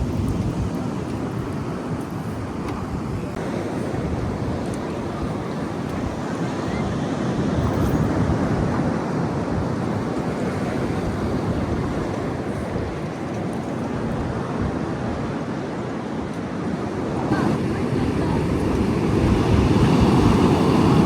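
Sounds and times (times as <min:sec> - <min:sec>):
ocean surf: 0:00.0 - 0:21.0
wind buffeting microphone: 0:00.0 - 0:21.0.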